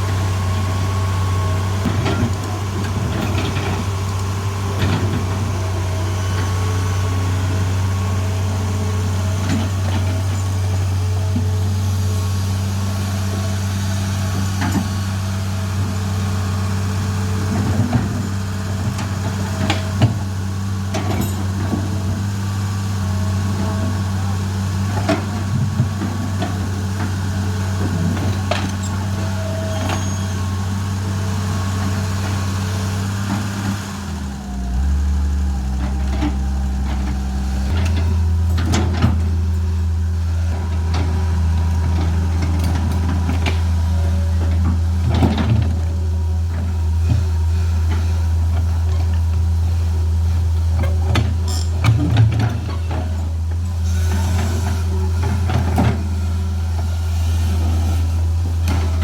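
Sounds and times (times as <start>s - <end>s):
heavy engine idling: 0.0s - 59.0s.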